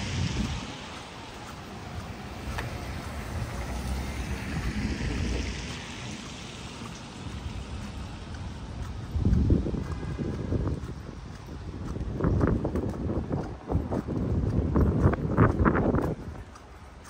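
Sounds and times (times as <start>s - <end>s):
tyres hissing on wet road: 0.0s - 13.7s
rain and water: 0.0s - 17.0s.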